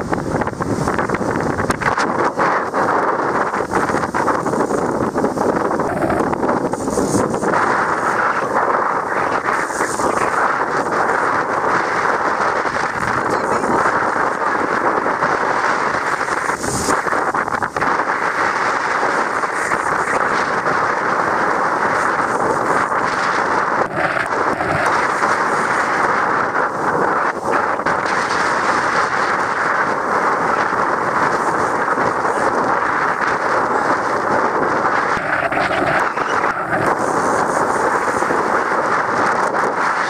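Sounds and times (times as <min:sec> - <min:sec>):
boat wake hissing: 0:00.0 - 0:40.0
wind buffeting microphone: 0:00.0 - 0:40.0.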